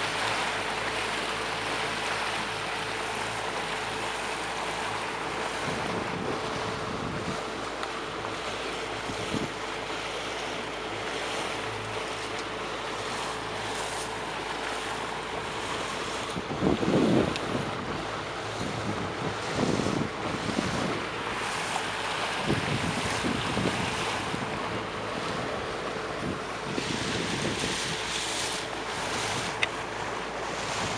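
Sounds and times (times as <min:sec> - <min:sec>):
boat engine hum: 0:00.0 - 0:30.9
water rushing past hull: 0:00.0 - 0:30.9
wind buffeting microphone: 0:03.5 - 0:30.9.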